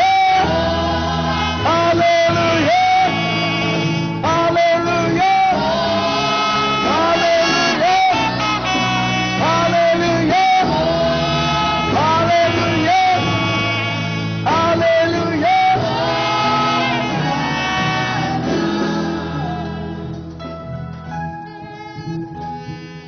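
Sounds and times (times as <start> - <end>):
choir singing: 0.0 - 20.4
instrumental accompaniment: 0.0 - 23.0.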